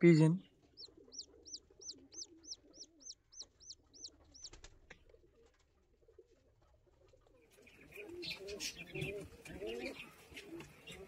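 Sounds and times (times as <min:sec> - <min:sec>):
chick peeping: 0:00.2 - 0:11.0.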